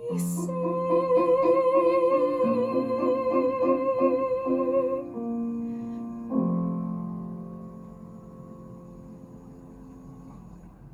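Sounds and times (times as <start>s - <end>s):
piano chords: 0.0s - 10.9s.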